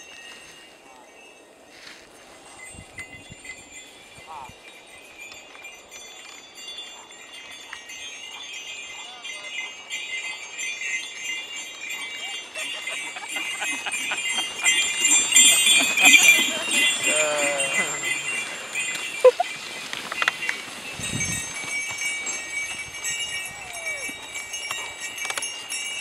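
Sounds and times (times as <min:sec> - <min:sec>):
hoofbeats in snow: 0:00.0 - 0:26.0
sleigh bells jingling: 0:00.0 - 0:26.0.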